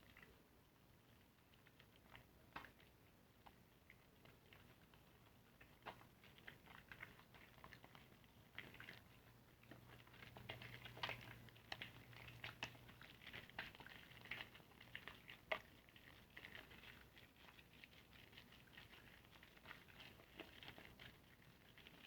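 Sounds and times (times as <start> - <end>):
soapy sponge squishing: 0.0 - 22.0.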